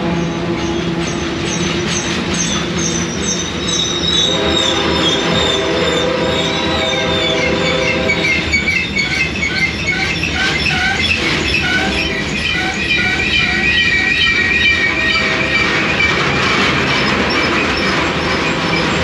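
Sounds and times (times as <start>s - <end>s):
train rumble: 0.0s - 19.0s
train wheels squealing on rails: 0.0s - 19.0s.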